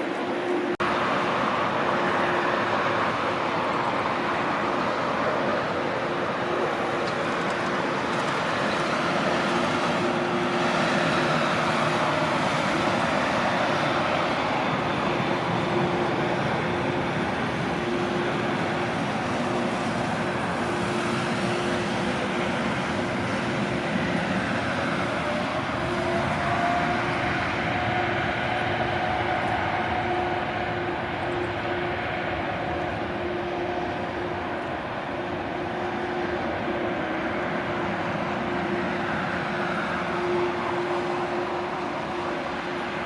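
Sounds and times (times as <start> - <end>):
jet engine whine rising: 0.0 - 43.0
jet engines droning: 0.0 - 43.0.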